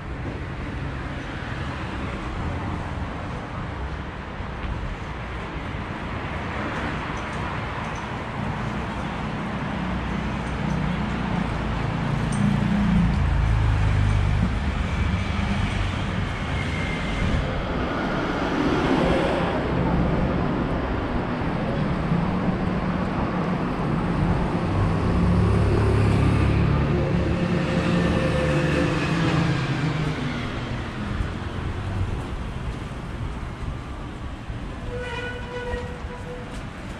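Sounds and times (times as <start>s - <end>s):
vehicles passing with tyre rumble: 0.0s - 36.9s.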